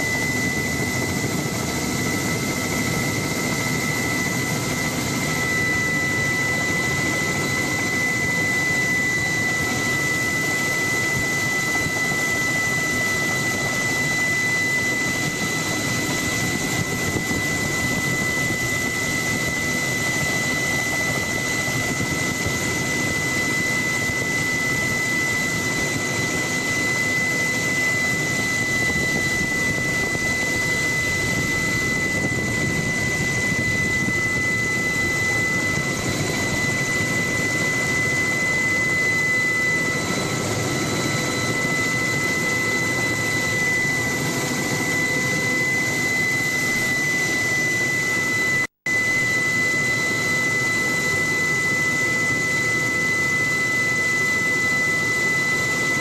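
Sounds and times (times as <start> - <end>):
helicopter engine and rotor noise: 0.0 - 56.0
helicopter turbine whine: 0.0 - 56.0.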